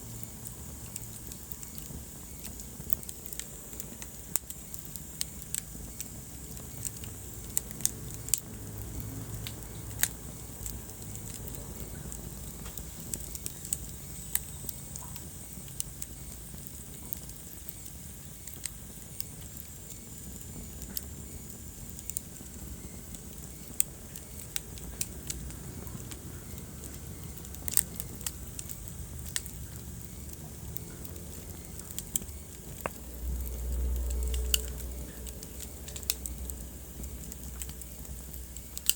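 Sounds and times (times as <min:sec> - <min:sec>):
low rumble of flames: 0:00.0 - 0:38.9
wood fire popping and snapping: 0:00.0 - 0:38.9.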